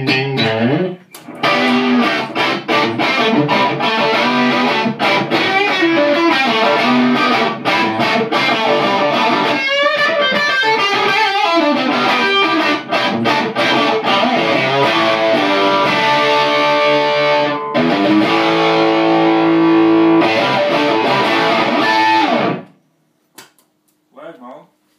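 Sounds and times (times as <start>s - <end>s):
electric guitar playing: 0.0s - 22.8s.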